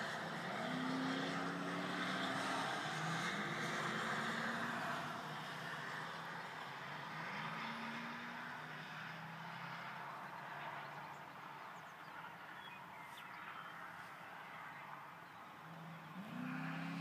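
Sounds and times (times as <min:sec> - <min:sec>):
distant car engine: 0:00.0 - 0:17.0.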